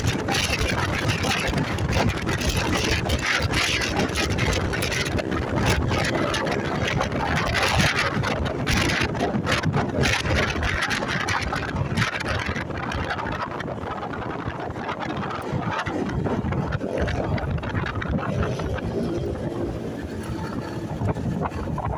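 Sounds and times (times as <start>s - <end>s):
motorcycle engine running: 0.0s - 21.9s
wind buffeting microphone: 0.0s - 21.9s.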